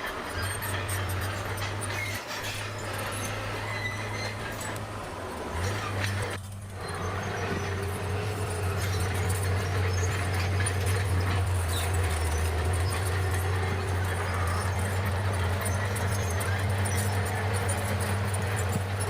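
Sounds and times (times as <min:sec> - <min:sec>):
bulldozer diesel engine: 0:00.0 - 0:19.0
steel tracks clinking: 0:00.0 - 0:19.0.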